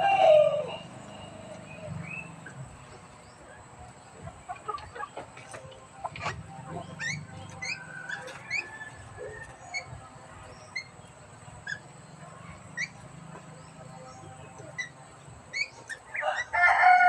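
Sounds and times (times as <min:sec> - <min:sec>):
bird chirping upward: 0:00.0 - 0:03.5, 0:04.7 - 0:16.5.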